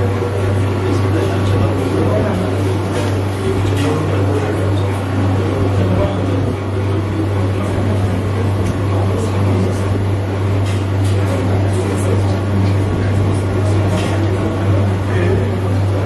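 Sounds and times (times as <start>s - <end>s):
crowd chatter: 0.0s - 16.0s
steady low hum: 0.0s - 16.0s.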